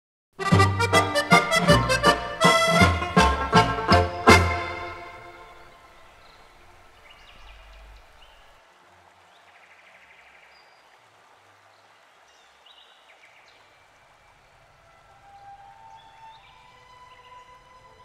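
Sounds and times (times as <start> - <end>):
soft steady hiss: 1.1 - 18.0.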